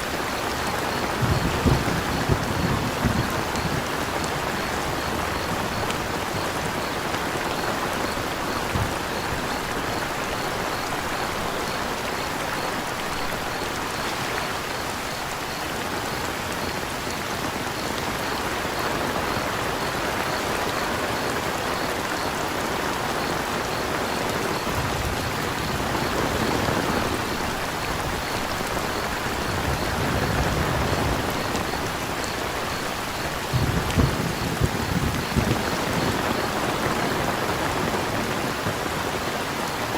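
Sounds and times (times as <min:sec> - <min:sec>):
crickets chirping: 0:00.0 - 0:39.9
gentle rainfall: 0:00.0 - 0:39.9.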